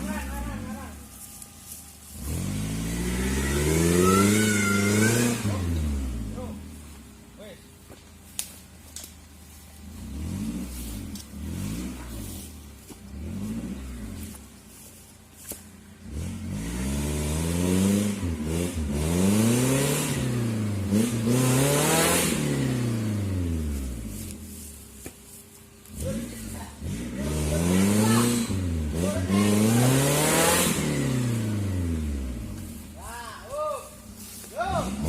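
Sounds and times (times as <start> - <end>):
engine revving: 0.0 - 7.4, 8.4 - 33.3, 33.9 - 35.0.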